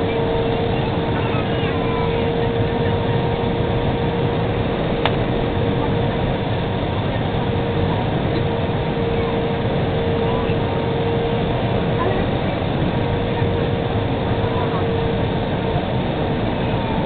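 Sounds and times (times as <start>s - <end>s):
airplane cabin noise: 0.0s - 17.0s.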